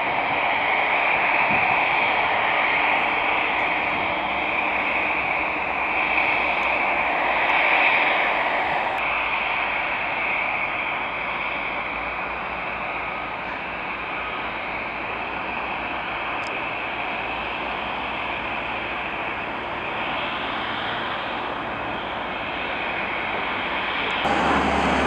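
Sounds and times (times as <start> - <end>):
deicing trucks spraying hiss: 0.0 - 25.0.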